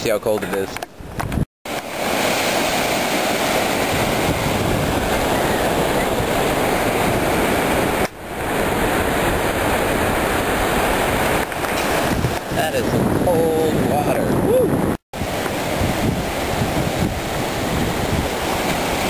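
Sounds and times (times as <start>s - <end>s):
waves breaking on beach: 1.7s - 19.0s.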